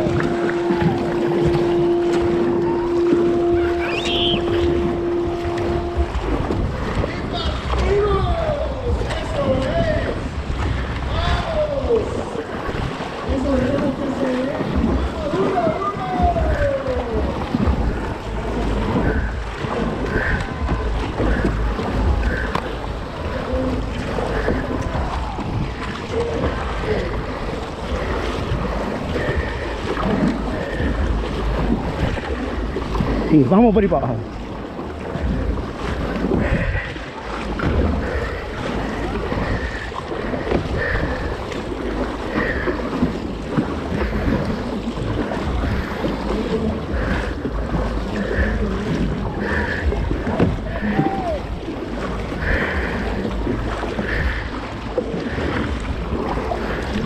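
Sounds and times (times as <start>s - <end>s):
paddles splashing in water: 0.0s - 57.0s
water rushing along hull: 0.0s - 57.0s
wind buffeting microphone: 0.0s - 57.0s.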